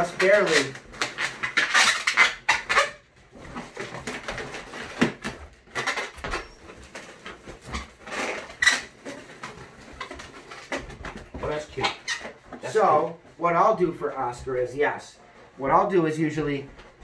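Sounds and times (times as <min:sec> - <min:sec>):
balloons squeaking and rubbing: 0:00.0 - 0:17.0.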